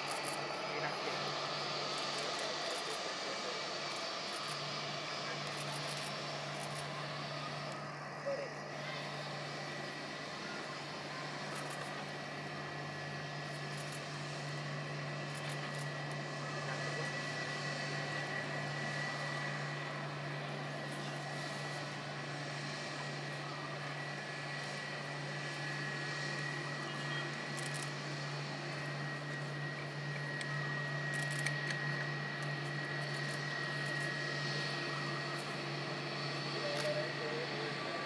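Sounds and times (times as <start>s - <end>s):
jet engines whining: 0.0s - 38.0s.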